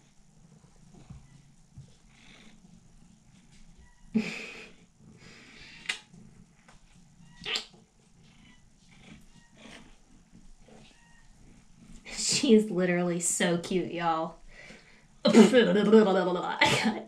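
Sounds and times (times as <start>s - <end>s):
cat purring: 0.0s - 15.2s.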